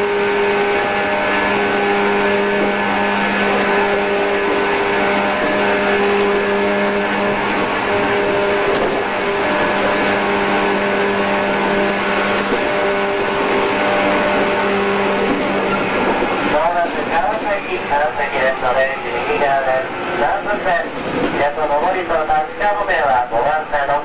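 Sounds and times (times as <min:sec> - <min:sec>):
train hum: 0:00.0 - 0:24.0
wheel and rail noise: 0:00.0 - 0:24.0.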